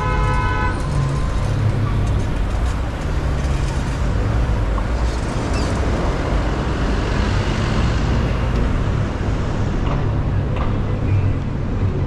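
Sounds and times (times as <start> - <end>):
car road and traffic noise: 0.0 - 12.0.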